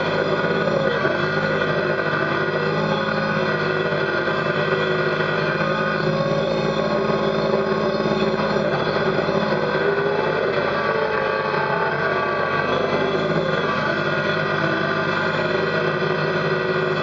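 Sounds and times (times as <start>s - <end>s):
diesel tractor engine running: 0.0s - 17.0s
loader bucket pushing through dirt: 0.0s - 17.0s.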